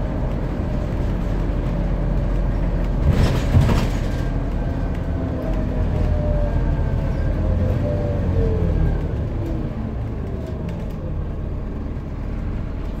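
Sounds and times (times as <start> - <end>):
bus diesel engine: 0.0 - 13.0
road rumble: 0.0 - 13.0.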